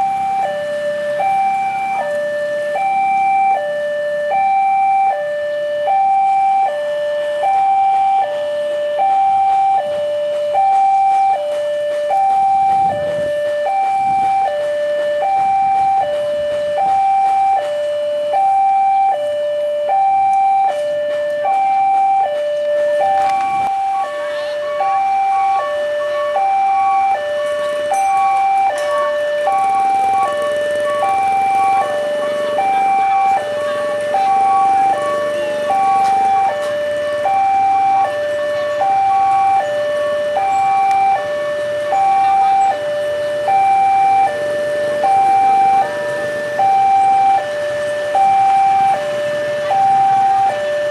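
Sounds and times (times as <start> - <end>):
two-tone level crossing alarm: 0.0 - 50.9.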